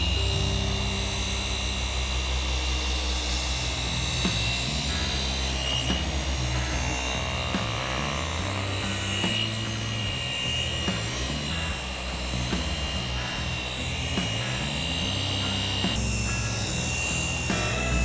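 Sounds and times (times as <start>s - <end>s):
background music with beat: 0.0s - 18.0s
orbital polisher whining: 0.0s - 18.0s.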